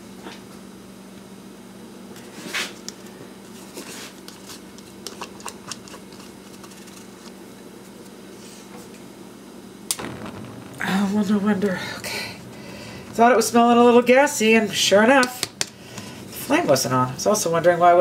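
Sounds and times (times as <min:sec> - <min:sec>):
kitchen room hum: 0:00.0 - 0:10.0, 0:10.8 - 0:18.0.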